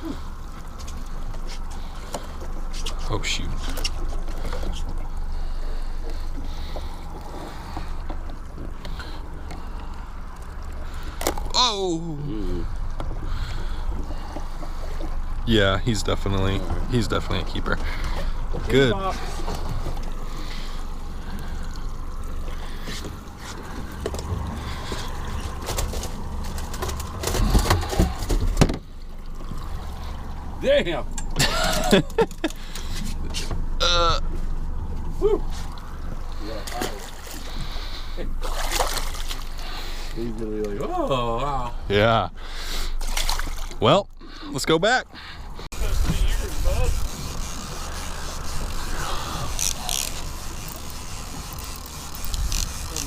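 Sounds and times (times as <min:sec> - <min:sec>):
boat motor rumbling: 0:00.0 - 0:53.0.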